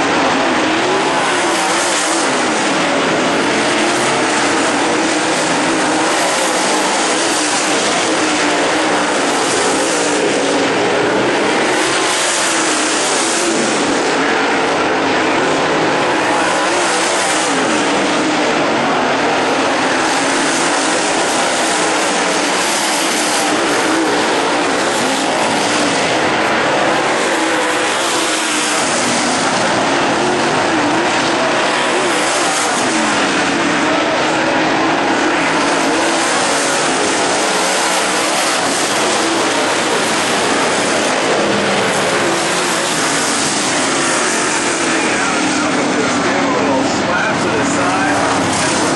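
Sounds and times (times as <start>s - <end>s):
race car engines droning: 0.0s - 48.9s.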